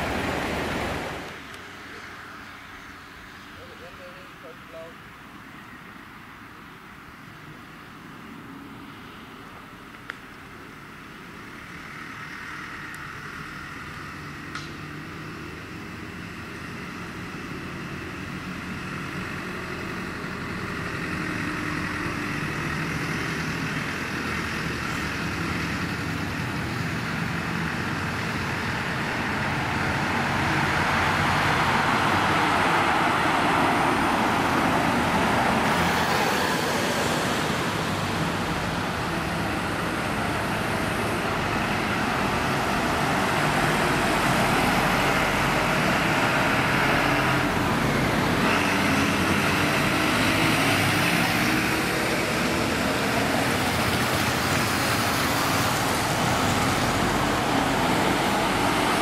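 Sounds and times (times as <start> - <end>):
vehicles passing on road: 0.0 - 59.0.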